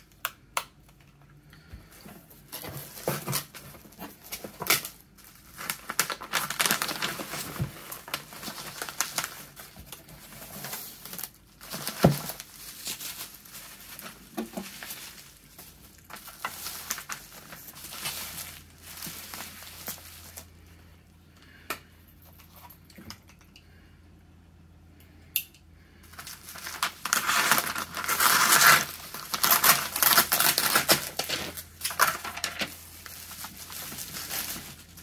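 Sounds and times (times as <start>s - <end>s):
bubble wrap crinkling and rustling: 1.6s - 20.8s, 26.0s - 35.0s.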